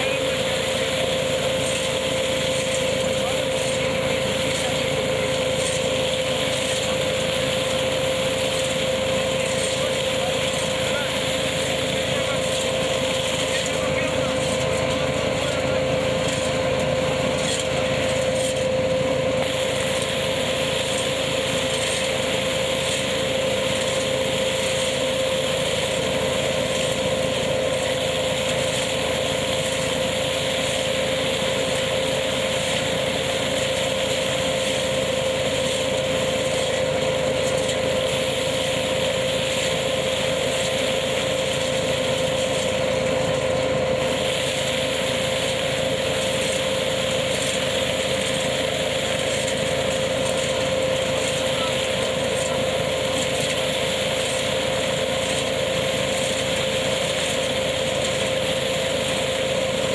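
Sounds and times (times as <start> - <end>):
harvesting machine running: 0.0 - 59.9
steady mechanical whine: 0.0 - 59.9.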